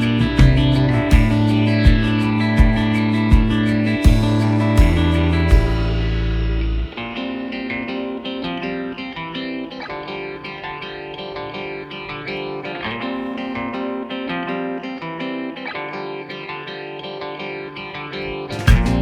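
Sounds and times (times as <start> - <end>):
guitar instrumental music: 0.0 - 19.0.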